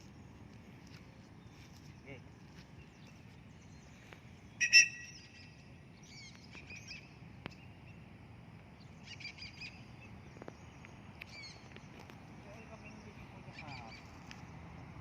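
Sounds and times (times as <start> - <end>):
birds calling and chirping: 0.0 - 15.0.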